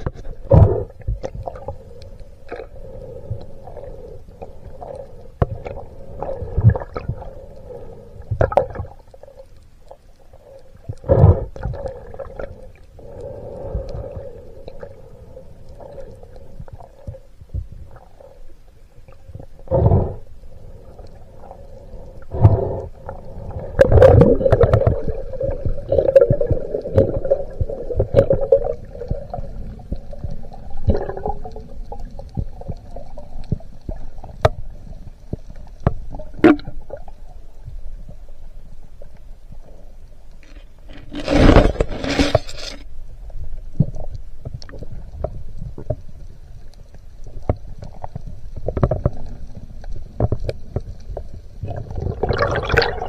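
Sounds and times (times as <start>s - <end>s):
steady low underwater hum: 0.0s - 53.0s.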